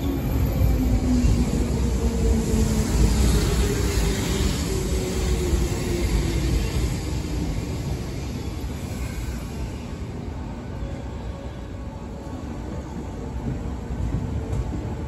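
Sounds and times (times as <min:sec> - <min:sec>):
falling whine of train: 0:00.0 - 0:15.0.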